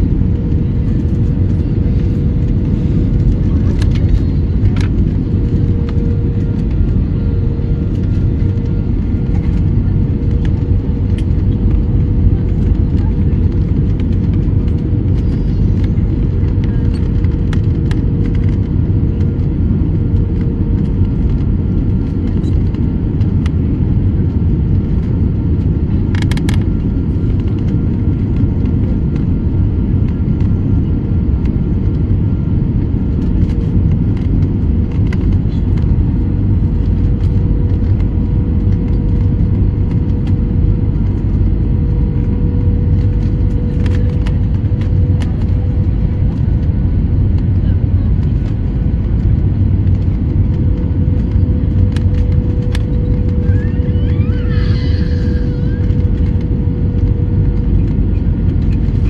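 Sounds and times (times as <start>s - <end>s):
airliner engine rumble: 0.0s - 59.0s
constant whine: 0.0s - 59.0s.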